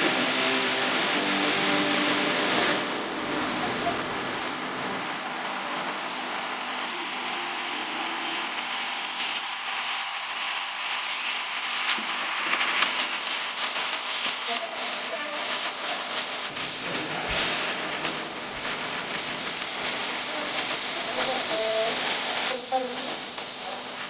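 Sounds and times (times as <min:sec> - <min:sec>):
pressurised gas hissing: 0:00.0 - 0:24.0.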